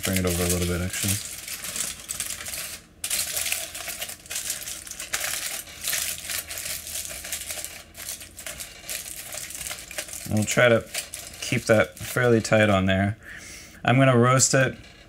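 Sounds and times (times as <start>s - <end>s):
aluminium foil crinkling: 0.0s - 12.8s.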